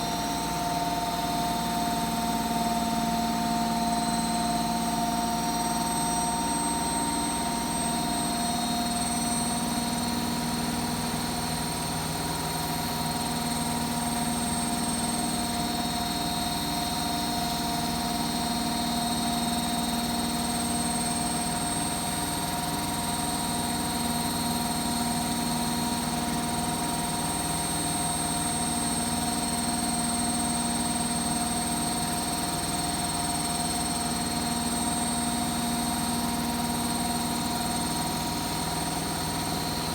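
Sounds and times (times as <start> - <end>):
motor whine: 0.0 - 39.9.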